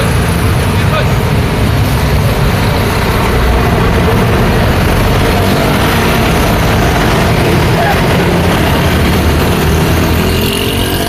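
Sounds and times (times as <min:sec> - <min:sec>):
busy road traffic: 0:00.0 - 0:11.0.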